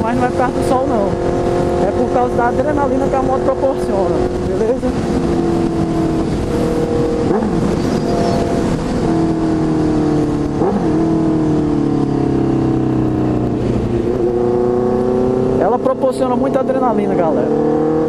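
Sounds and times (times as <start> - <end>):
motorcycle engine running loud: 0.0 - 18.0.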